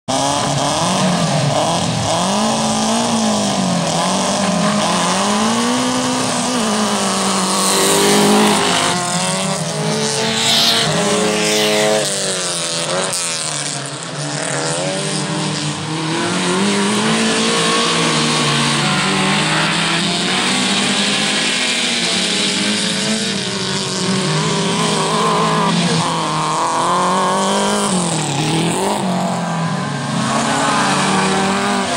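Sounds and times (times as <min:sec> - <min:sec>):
race car engines revving: 0:00.0 - 0:31.9.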